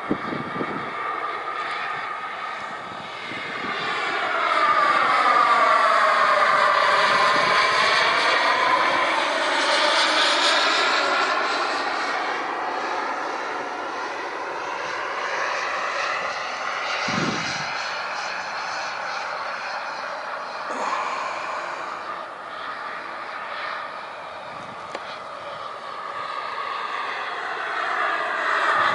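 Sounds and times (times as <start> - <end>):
model jet engine whine passing: 0.0 - 28.9.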